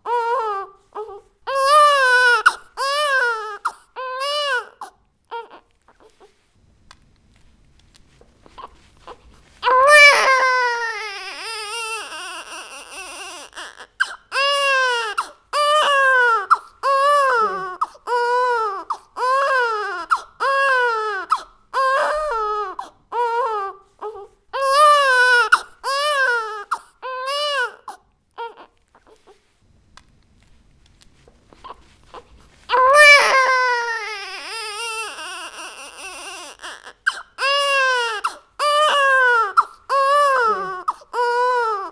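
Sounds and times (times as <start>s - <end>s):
baby crying: 0.0s - 6.3s, 9.1s - 29.3s, 31.6s - 41.9s.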